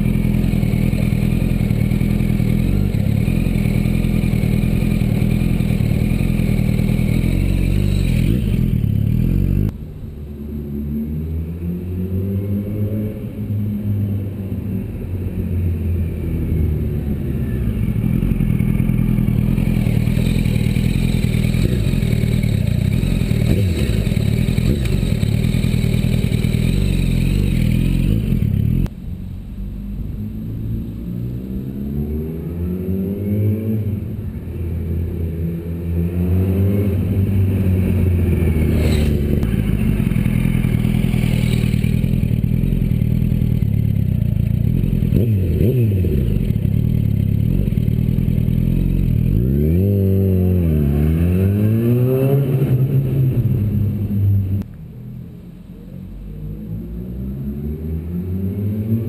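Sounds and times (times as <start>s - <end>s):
motorcycle engine revving: 0.0s - 9.8s, 15.4s - 29.0s, 29.7s - 54.7s.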